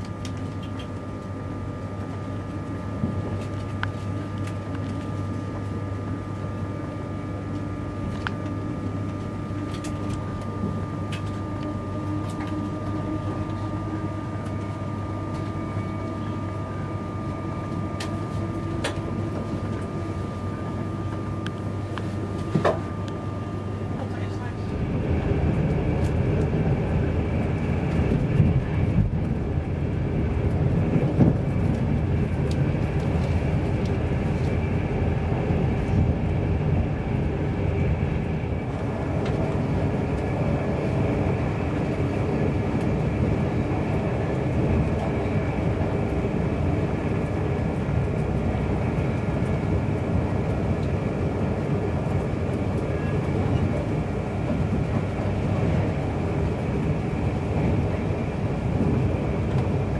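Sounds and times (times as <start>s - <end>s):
train wheels rumbling on rails: 1.9s - 59.9s.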